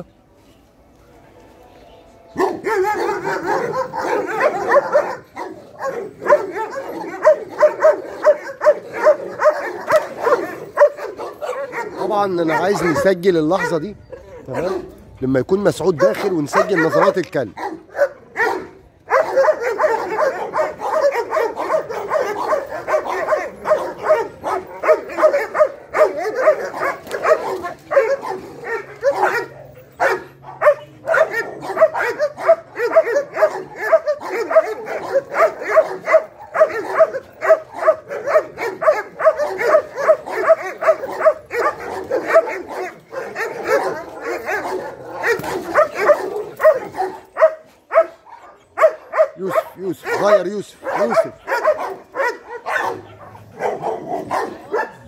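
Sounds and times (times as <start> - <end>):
dog barking: 2.4 - 14.9, 15.9 - 55.0.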